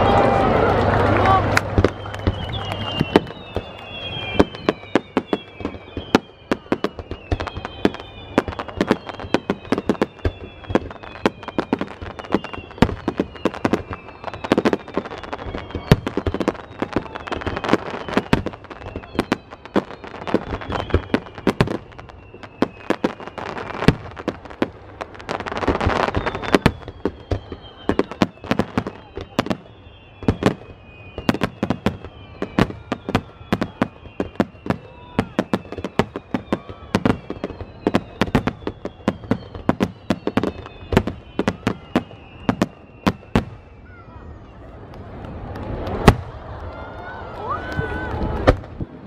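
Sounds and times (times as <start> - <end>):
fireworks bangs and crackles: 0.0 - 49.0
fireworks descending whistles: 0.0 - 49.0.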